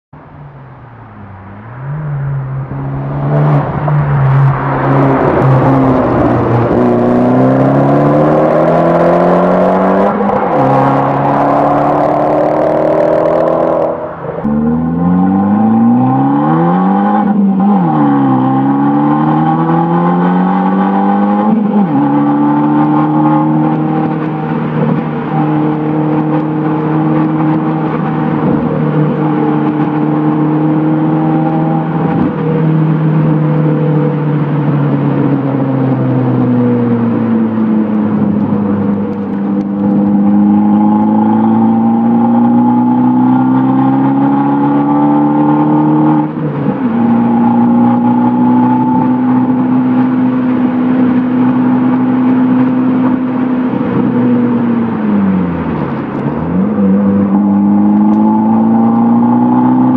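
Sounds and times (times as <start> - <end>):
car engine accelerating hard: 1.3 - 59.9.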